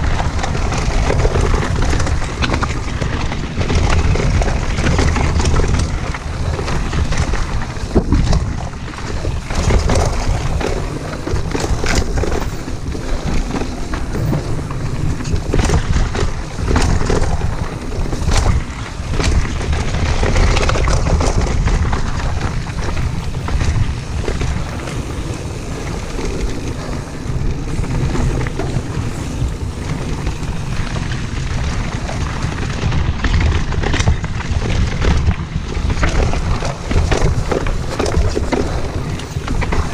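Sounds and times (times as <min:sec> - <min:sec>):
bike rattling and knocking: 0:00.0 - 0:39.9
bike tyre noise on dirt: 0:00.0 - 0:39.9
wind buffeting microphone: 0:00.0 - 0:39.9.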